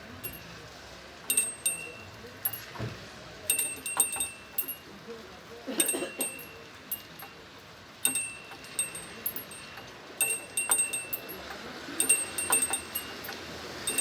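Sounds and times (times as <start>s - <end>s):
small bells ringing: 0.0s - 14.0s.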